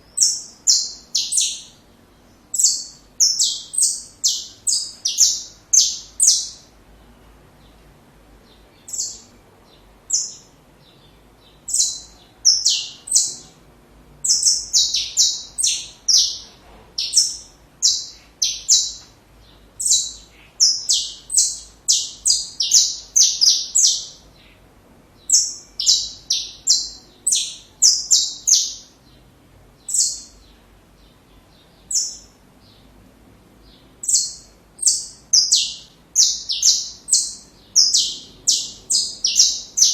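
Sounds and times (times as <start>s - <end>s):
finch singing: 0.0s - 33.0s, 33.6s - 39.9s.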